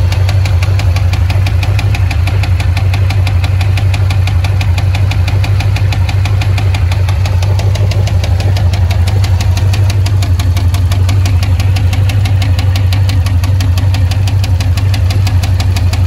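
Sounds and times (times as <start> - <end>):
engine running with rapid knock: 0.0 - 16.0.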